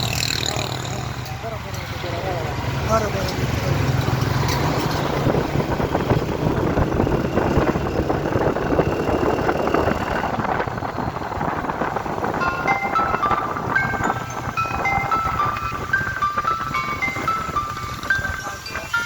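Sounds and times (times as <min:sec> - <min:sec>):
road rumble: 0:00.0 - 0:19.0
truck engine running: 0:00.0 - 0:19.0.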